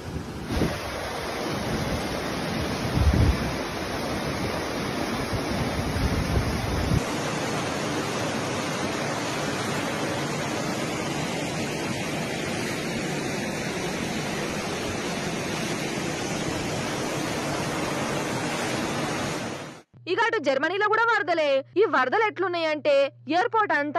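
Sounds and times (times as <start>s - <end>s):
floodwater rushing: 0.0s - 19.8s.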